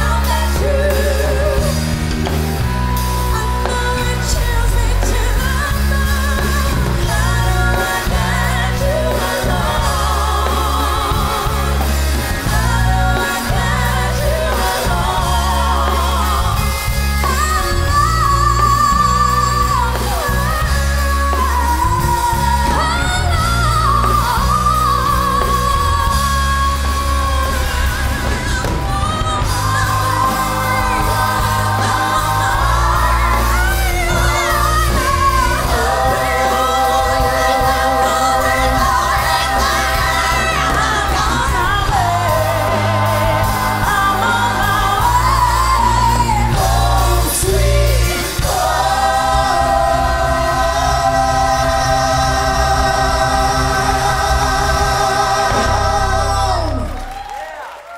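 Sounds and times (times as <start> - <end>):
amplified backing music: 0.0 - 57.5
singers belting into microphones: 0.0 - 57.9.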